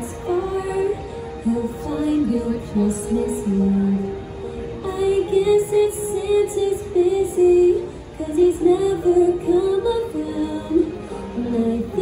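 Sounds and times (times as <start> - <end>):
woman singing into a microphone: 0.0 - 12.0.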